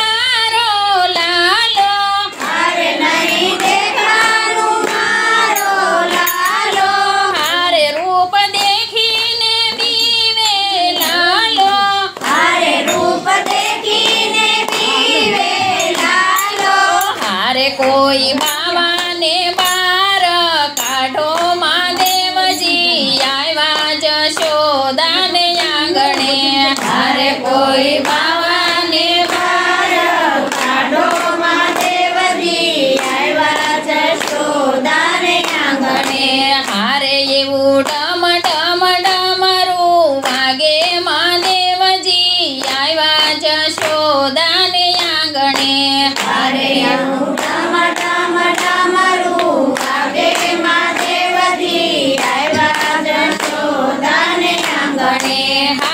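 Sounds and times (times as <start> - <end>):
group singing devotional song: 0.0 - 55.9
hand clapping: 0.3 - 55.9.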